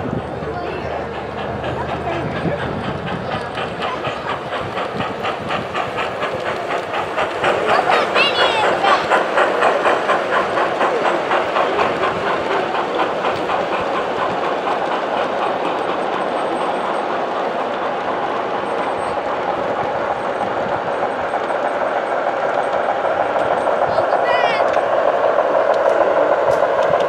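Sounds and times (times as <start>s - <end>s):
model train wheels clicking on rails: 0.0s - 27.0s.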